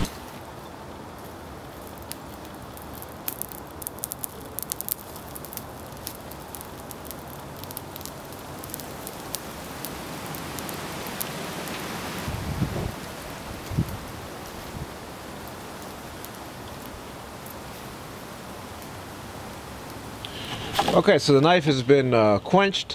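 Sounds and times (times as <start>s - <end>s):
forge fire crackling and popping: 0.0s - 21.1s
steady hiss: 0.0s - 22.3s.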